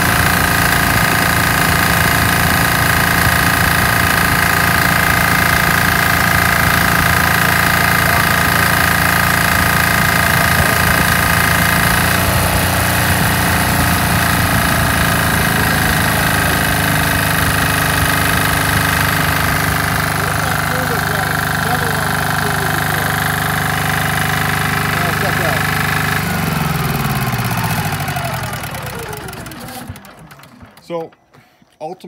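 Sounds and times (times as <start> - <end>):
steady high whine: 0.0 - 31.2
diesel generator engine running: 0.0 - 31.4.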